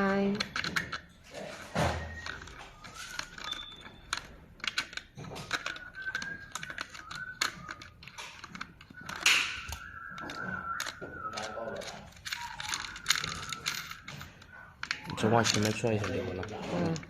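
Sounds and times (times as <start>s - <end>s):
plastic and metal parts clicking: 0.0s - 17.0s.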